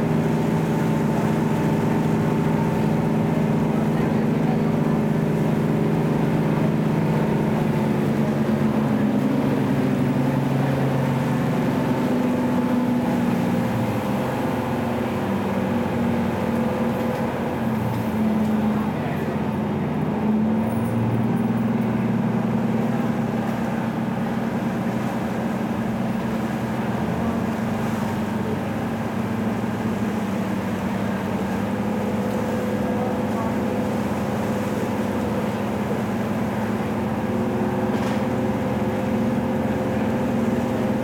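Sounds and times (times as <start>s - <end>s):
ferry engine low drone: 0.0s - 41.0s.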